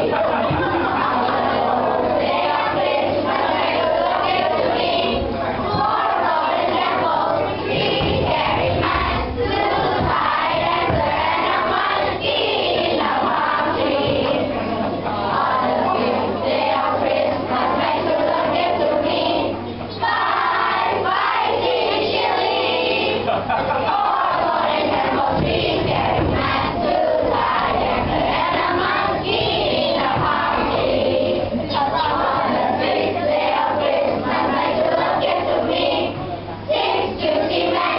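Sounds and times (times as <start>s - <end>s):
children singing together: 0.0s - 37.9s.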